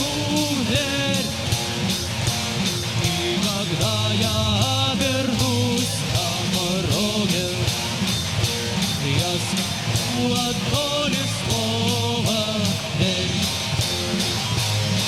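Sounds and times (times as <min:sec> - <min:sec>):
bass: 0:00.0 - 0:15.0
drum beat: 0:00.0 - 0:15.0.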